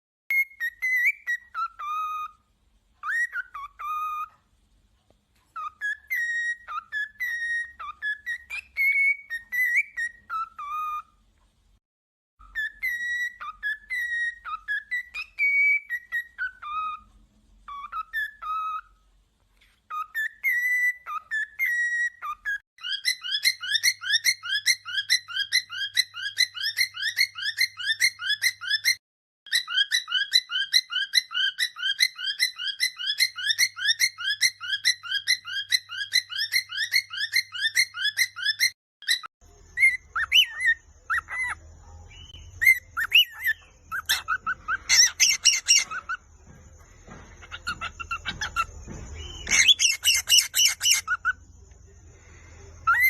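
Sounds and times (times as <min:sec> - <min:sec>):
songbird whistling and trilling: 0:00.3 - 0:04.4, 0:05.5 - 0:11.2, 0:12.4 - 0:19.1, 0:19.9 - 0:53.0.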